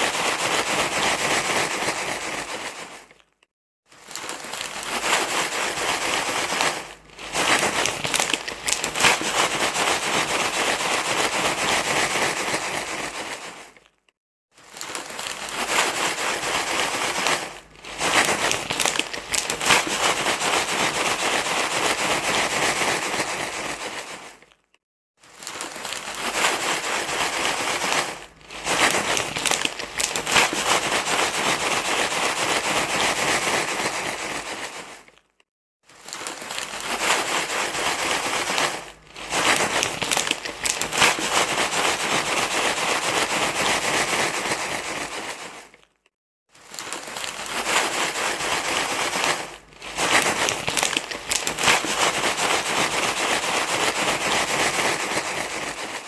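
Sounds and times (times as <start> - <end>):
crinkly rustling: 0.0 - 56.0.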